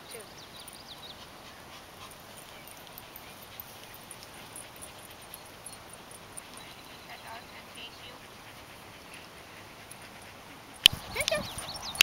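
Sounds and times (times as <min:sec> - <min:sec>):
dogs playing: 0:00.1 - 0:12.0.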